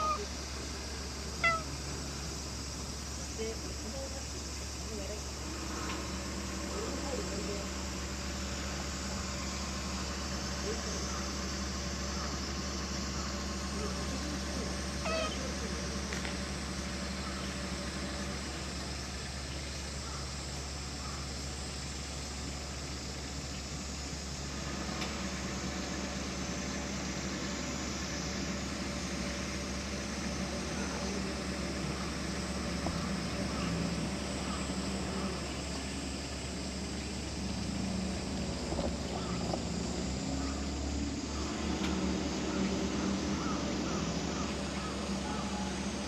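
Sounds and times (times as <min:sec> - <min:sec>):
idling machinery hum: 0:00.0 - 0:46.0.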